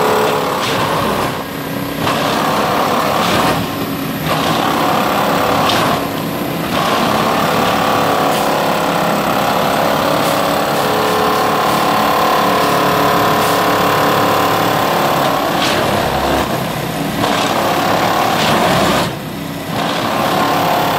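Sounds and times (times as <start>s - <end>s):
diesel engine running: 0.0s - 20.9s
mechanical rattling and clattering: 0.2s - 20.9s.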